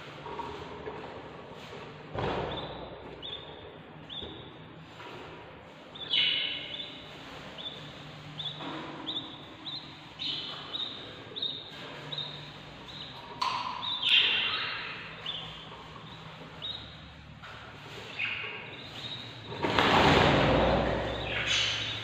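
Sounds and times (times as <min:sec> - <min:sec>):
bird chicks peeping: 0:01.6 - 0:22.0.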